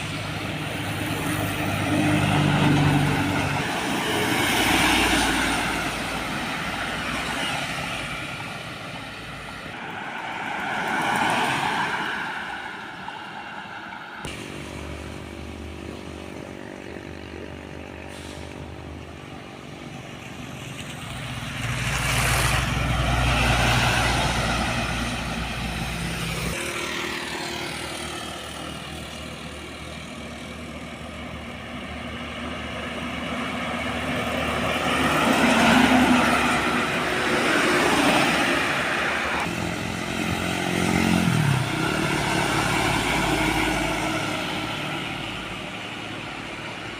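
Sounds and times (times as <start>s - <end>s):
diesel trucks driving past: 0.0s - 46.9s.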